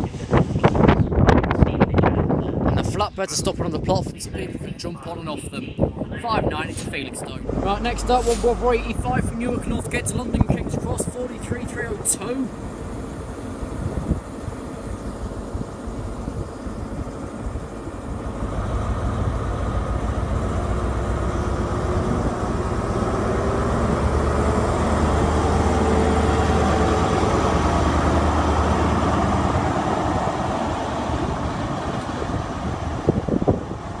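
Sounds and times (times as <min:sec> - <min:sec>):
diesel train engine passing: 0:05.8 - 0:34.0.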